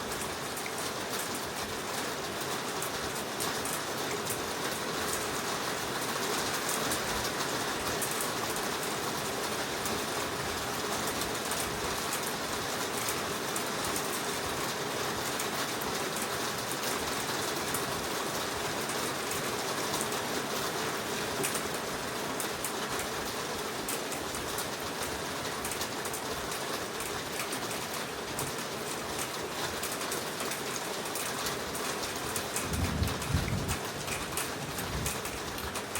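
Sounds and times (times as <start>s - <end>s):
heavy rain on leaves: 0.0s - 35.9s.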